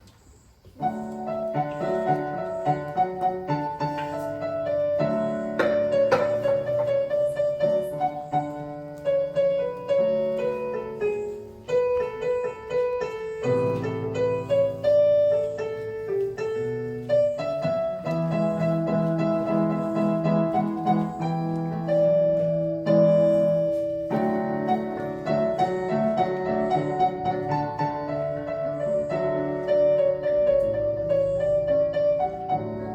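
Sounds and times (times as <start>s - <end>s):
piano keyboard playing hymn: 0.0s - 32.9s.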